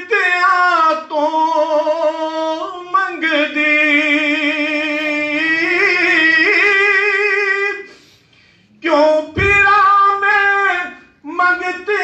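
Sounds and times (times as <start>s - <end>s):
man singing through loudspeaker: 0.0s - 8.0s, 8.7s - 12.0s.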